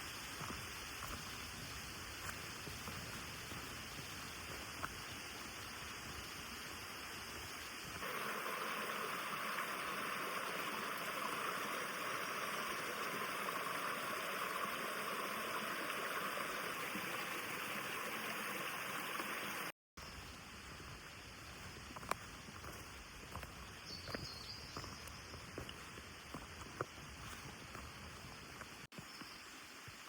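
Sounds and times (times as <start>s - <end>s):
mountain stream running: 0.0s - 19.7s, 20.5s - 30.0s
quiet outdoor ambience: 0.0s - 30.0s.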